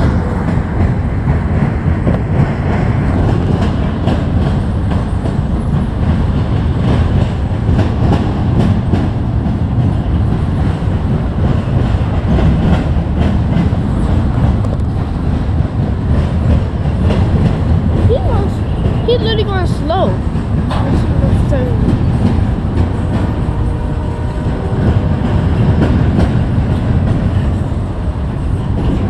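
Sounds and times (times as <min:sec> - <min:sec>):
freight train rumble: 0:00.0 - 0:29.0
wheels clacking over rail joints: 0:00.0 - 0:29.0.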